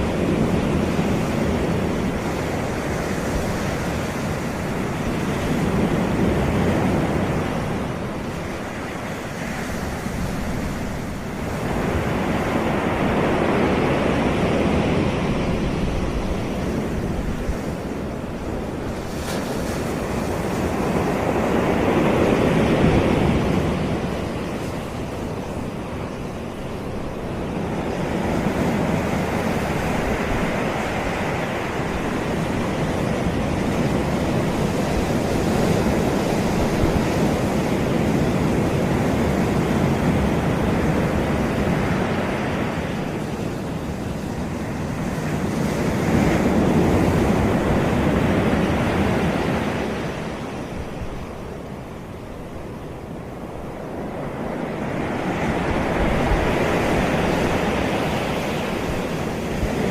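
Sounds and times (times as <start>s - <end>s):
sea waves washing onto beach: 0.0s - 59.9s
wind on microphone: 0.0s - 59.9s.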